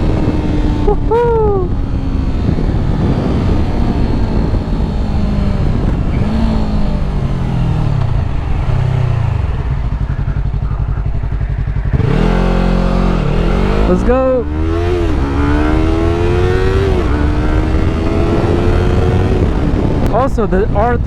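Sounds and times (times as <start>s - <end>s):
motorcycle engine under hard throttle: 0.0s - 21.0s.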